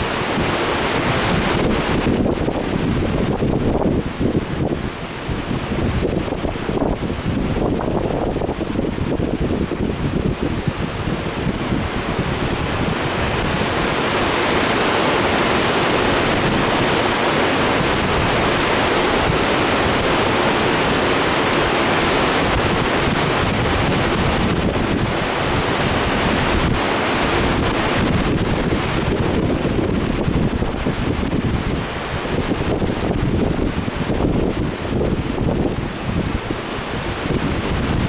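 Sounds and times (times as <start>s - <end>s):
creek rushing over a dam: 0.0s - 38.0s
wind buffeting microphone: 0.0s - 38.0s.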